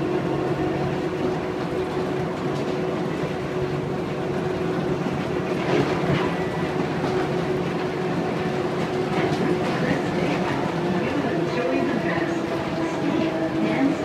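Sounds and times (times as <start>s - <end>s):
monorail train hum and rolling: 0.0s - 14.0s.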